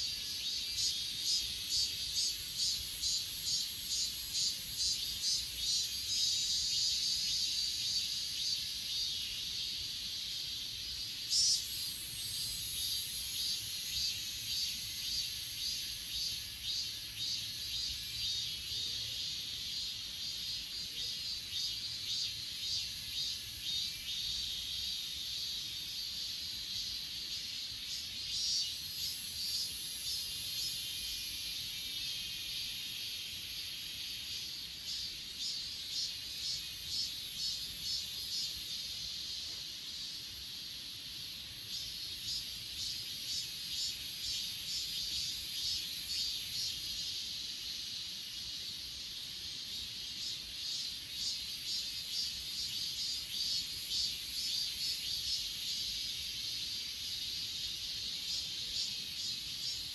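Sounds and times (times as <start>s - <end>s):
high-pitched insect trill: 0.0s - 59.9s
insects pulsing chirps: 0.0s - 59.9s.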